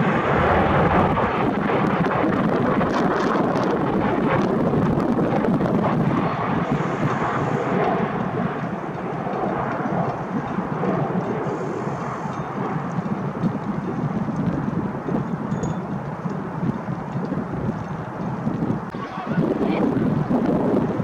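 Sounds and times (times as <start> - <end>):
airliner engines rushing: 0.0 - 21.0
wind buffeting microphone: 0.0 - 21.0.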